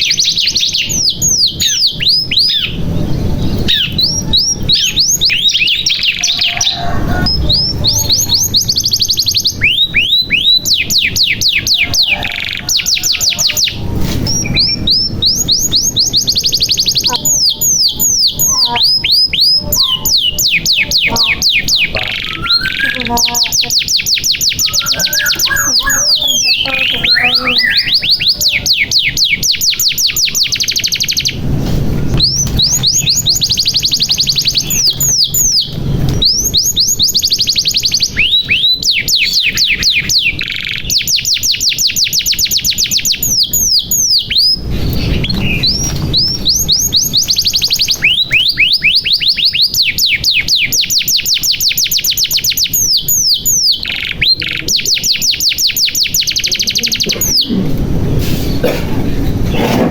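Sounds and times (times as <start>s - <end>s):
canary singing trills: 0.0s - 58.6s.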